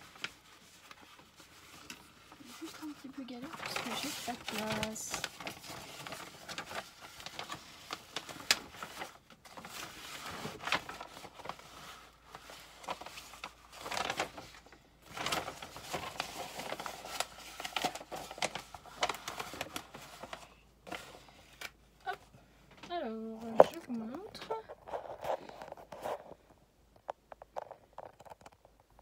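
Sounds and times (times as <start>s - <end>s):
paper and plastic film rustling: 0.0s - 29.0s.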